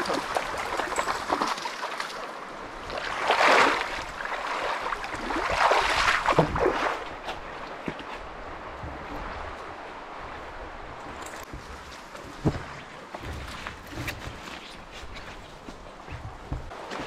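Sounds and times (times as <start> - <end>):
trickling water: 0.0 - 16.8
legs wading through water: 0.0 - 17.0.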